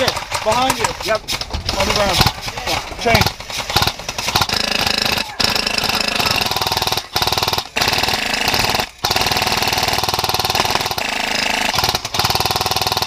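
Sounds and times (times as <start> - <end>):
airsoft machine gun firing: 0.0 - 13.0.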